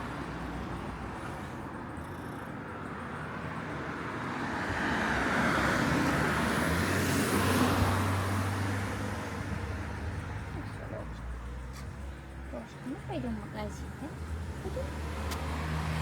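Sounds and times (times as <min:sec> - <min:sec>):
road traffic noise: 0:00.0 - 0:16.0
vehicle passing: 0:00.0 - 0:16.0.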